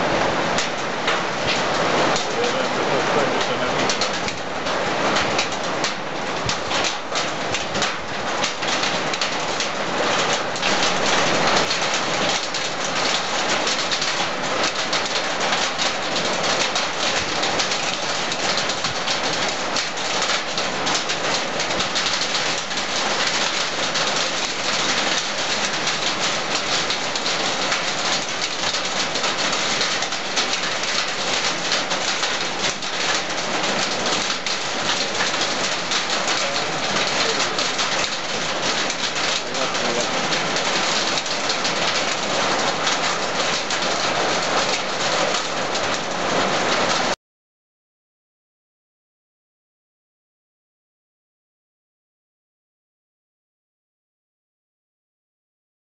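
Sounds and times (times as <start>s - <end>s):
hail hitting hard surfaces: 0.0s - 47.2s
heavy rain: 0.0s - 47.2s.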